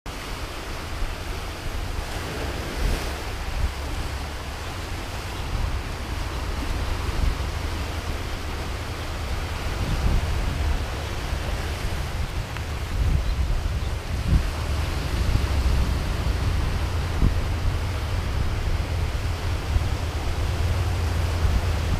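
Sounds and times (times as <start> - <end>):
surf washing onto rocky shore: 0.1 - 21.9
wind buffeting microphone: 0.2 - 21.9.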